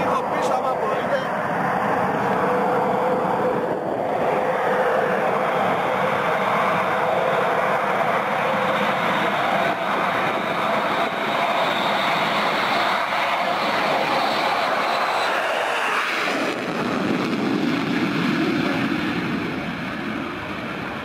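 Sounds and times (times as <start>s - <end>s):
fighter jet engines at takeoff: 0.0s - 21.0s.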